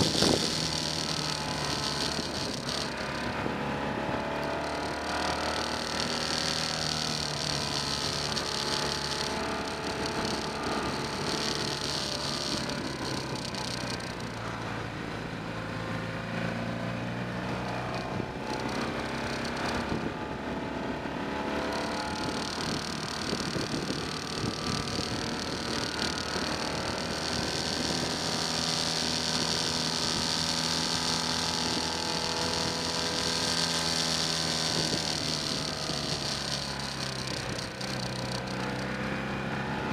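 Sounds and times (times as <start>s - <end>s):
motorcycle engine running: 0.0s - 39.9s
wind and road noise hiss: 0.0s - 39.9s.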